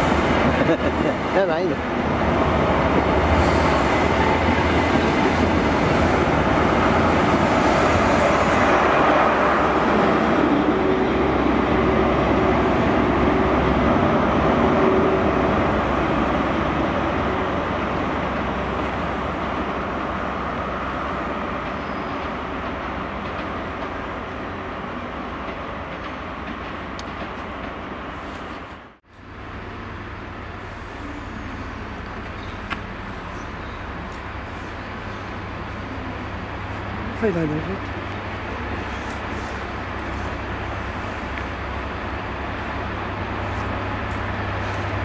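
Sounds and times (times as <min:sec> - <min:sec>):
locomotive diesel engine passing: 0:00.0 - 0:28.2, 0:29.2 - 0:45.0
train wheels on rails: 0:00.0 - 0:29.0, 0:30.6 - 0:45.0.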